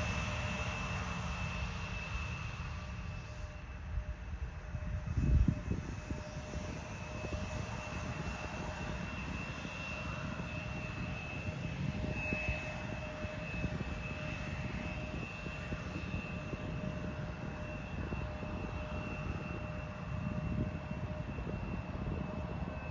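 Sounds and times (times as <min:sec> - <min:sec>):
jet engine high whine: 0:00.0 - 0:22.9
wind buffeting microphone: 0:04.0 - 0:22.9.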